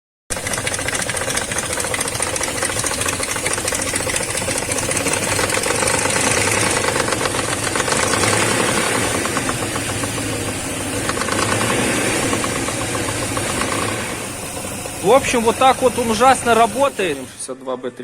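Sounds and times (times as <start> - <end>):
engine running: 0.3 - 18.0.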